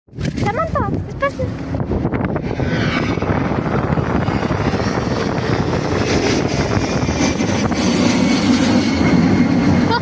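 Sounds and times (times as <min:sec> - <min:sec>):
airliner passing overhead: 0:00.2 - 0:10.0.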